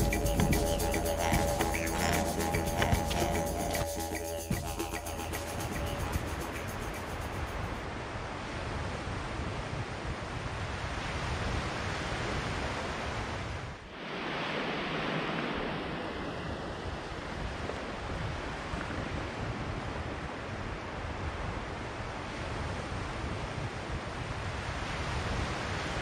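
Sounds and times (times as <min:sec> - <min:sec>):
wind rumbling on microphone: 0:00.0 - 0:26.0
ocean surf on sandy beach: 0:00.5 - 0:26.0.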